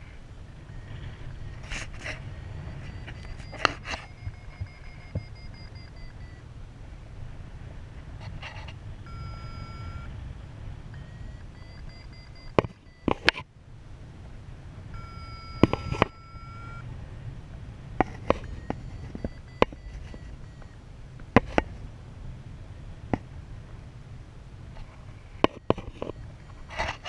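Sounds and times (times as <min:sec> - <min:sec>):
variometer steady tones: 0:00.0 - 0:07.4, 0:08.4 - 0:22.0, 0:25.2 - 0:27.0
wind rumbling on microphone: 0:00.0 - 0:27.0.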